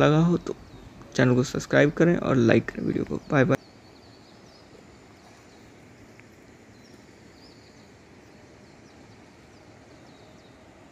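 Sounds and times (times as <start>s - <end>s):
high bird chirps: 0.0s - 6.0s, 6.6s - 10.9s
low background hiss and rumble: 0.0s - 10.9s.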